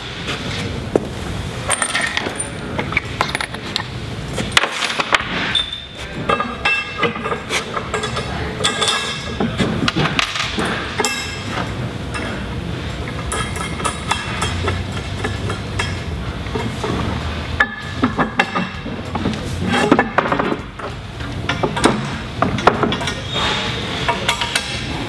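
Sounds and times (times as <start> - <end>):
metal tubes clinking and knocking: 1.6 - 25.0.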